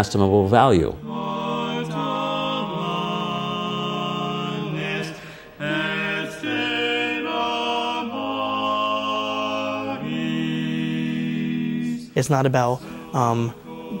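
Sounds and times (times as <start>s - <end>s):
men singing sacred chant: 0.8s - 14.0s.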